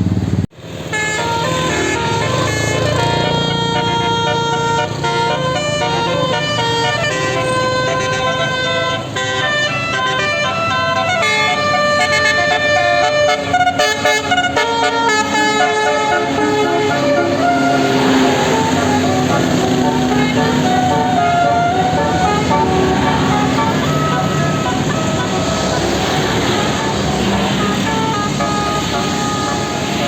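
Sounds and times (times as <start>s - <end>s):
motor vehicle noise: 0.0s - 30.0s
musical air horn melody: 0.8s - 30.0s.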